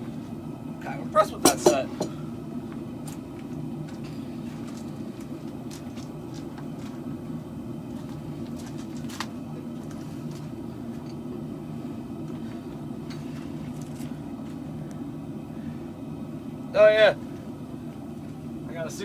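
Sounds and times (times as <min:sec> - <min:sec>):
gas burner roaring: 0:00.0 - 0:19.0.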